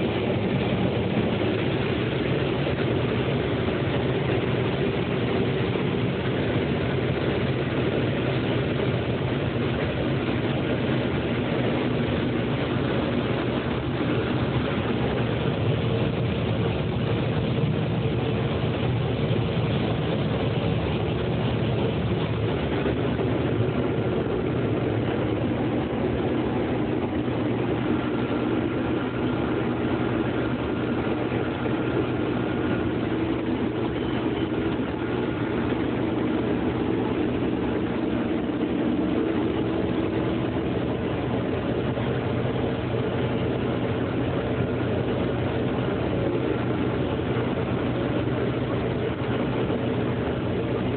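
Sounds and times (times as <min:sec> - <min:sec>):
diesel machinery engine drone: 0:00.0 - 0:50.9
faint high whine: 0:00.0 - 0:50.9.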